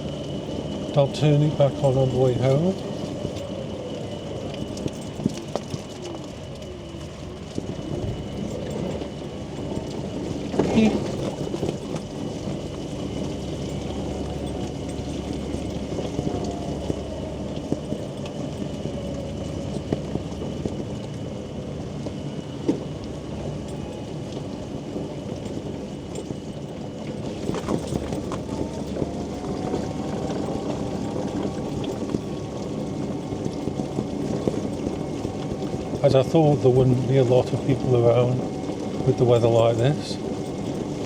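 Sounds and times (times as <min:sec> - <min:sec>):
electric motor whine: 0:00.0 - 0:41.0
rain and wheel noise: 0:00.0 - 0:41.0.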